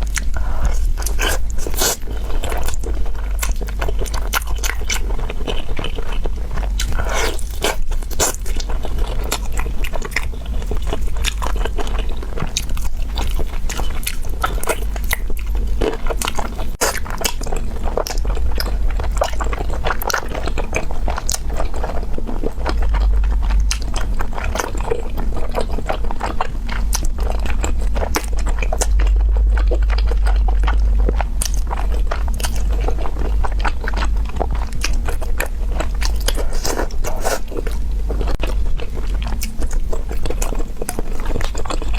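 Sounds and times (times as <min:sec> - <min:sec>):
constant low rumble: 0:00.0 - 0:41.9
person chewing: 0:00.0 - 0:41.9.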